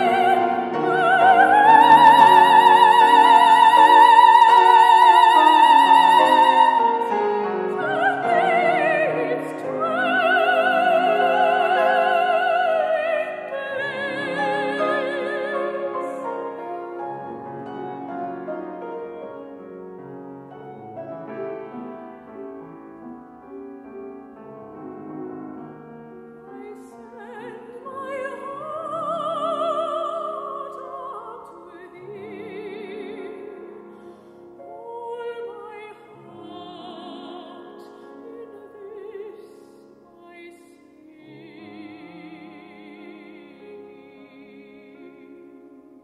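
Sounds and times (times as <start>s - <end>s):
soprano singing with vibrato: 0.0s - 18.8s, 26.4s - 46.0s
grand piano accompaniment: 0.0s - 46.0s.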